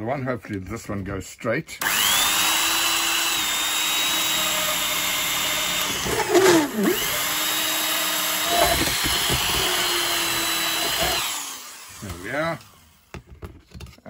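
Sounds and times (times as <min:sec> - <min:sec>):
rotary tool motor whine: 0:01.8 - 0:13.2
grinding rasp on plastic: 0:01.9 - 0:13.3.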